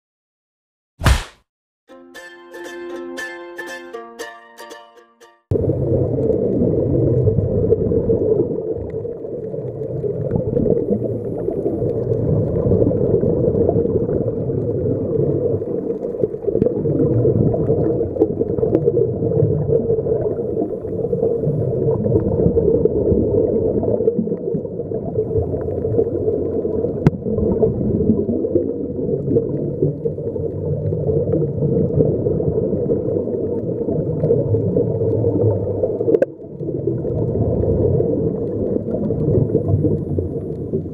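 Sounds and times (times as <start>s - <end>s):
underwater bubbling rumble: 5.5s - 40.9s.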